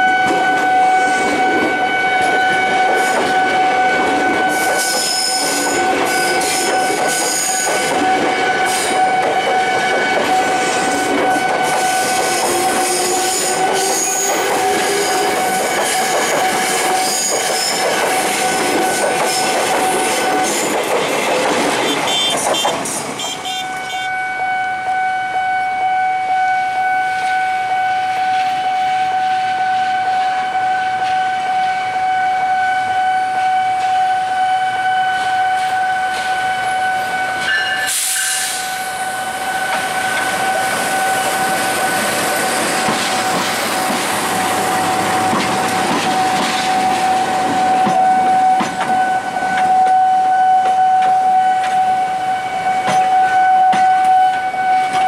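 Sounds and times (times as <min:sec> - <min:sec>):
diesel freight train passing: 0:00.0 - 0:55.0
electric train passing: 0:00.0 - 0:55.0.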